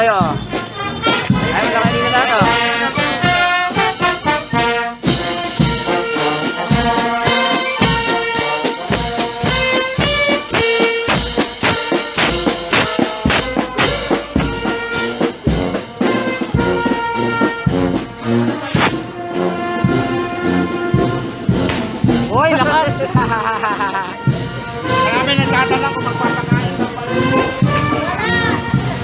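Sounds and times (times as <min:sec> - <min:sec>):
brass band playing: 0:00.0 - 0:29.0
snare and bass drum beat: 0:00.0 - 0:29.0.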